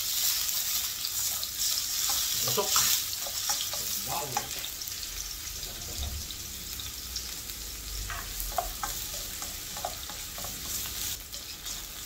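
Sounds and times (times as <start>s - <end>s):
spatula scraping wok: 0.0s - 6.8s, 7.9s - 12.0s
onions sizzling in oil: 0.0s - 12.0s.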